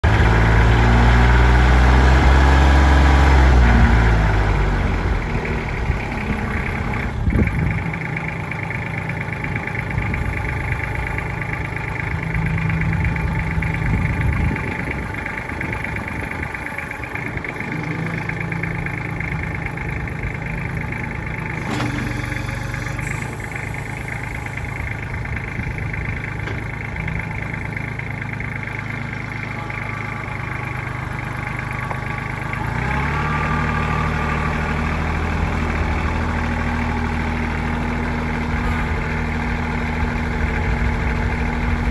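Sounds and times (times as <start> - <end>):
tractor diesel engine running: 0.0 - 41.9
loader clunk: 3.8 - 41.9.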